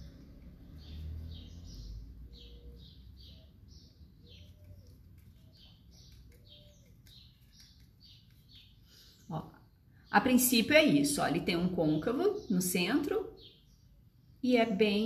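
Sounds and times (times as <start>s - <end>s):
small bird chirping: 0.0s - 14.4s.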